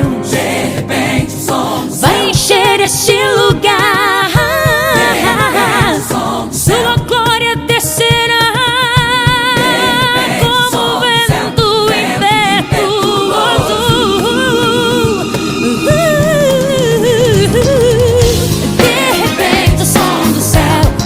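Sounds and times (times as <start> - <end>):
band accompaniment and drums: 0.0 - 21.0
woman singing gospel: 2.0 - 21.0.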